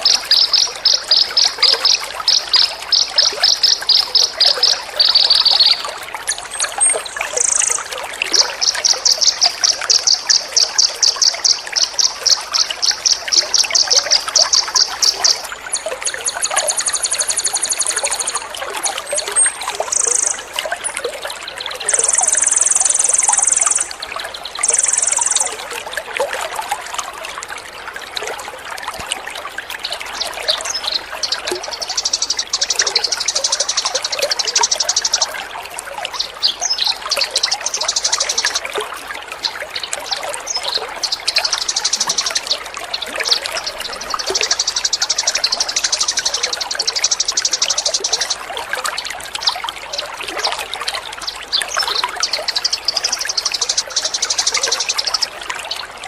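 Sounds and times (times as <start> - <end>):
songbird chirps and trills: 0.0 - 25.8, 29.7 - 56.0
water trickling: 0.0 - 56.0.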